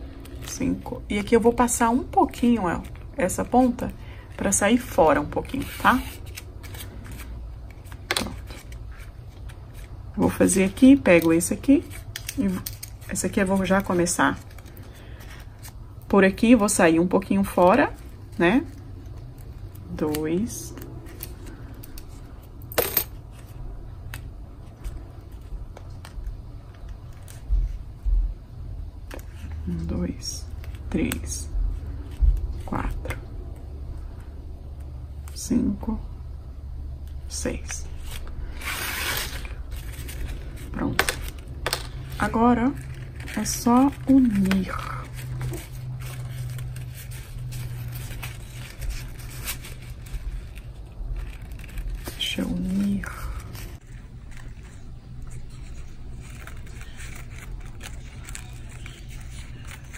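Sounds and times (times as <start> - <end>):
ribbon rustling and crinkling: 0.0 - 16.8, 17.4 - 28.3, 37.6 - 59.9
low background hum: 0.0 - 59.9.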